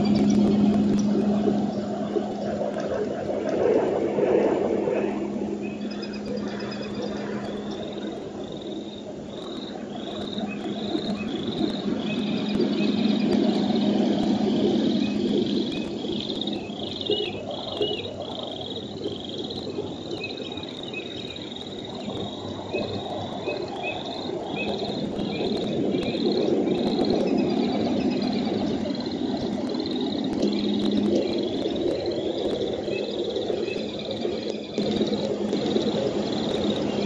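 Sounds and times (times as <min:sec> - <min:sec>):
low rushing noise: 0:00.0 - 0:20.0, 0:24.3 - 0:37.0
frogs calling: 0:00.0 - 0:37.0.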